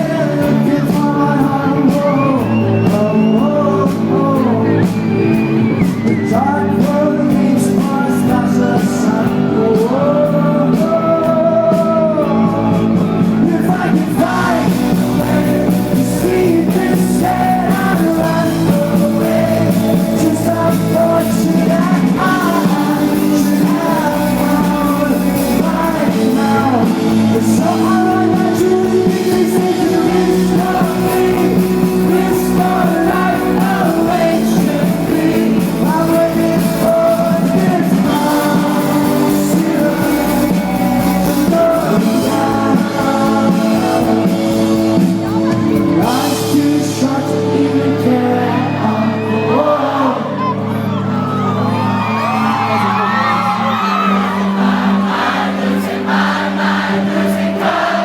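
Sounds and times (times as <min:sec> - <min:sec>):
lead singer singing: 0:00.0 - 0:58.0
live rock band playing: 0:00.0 - 0:58.0.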